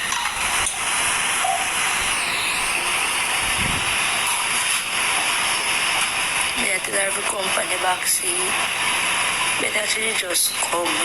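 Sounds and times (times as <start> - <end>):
steady loud hiss: 0.0 - 11.0.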